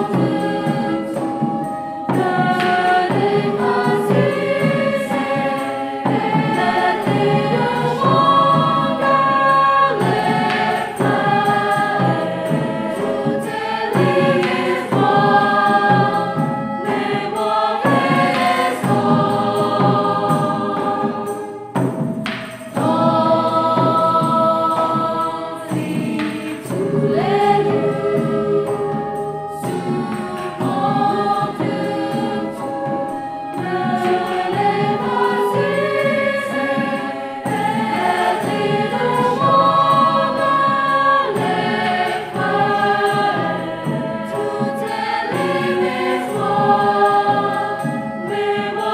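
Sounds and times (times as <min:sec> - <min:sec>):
mixed choir singing: 0:00.0 - 0:48.9.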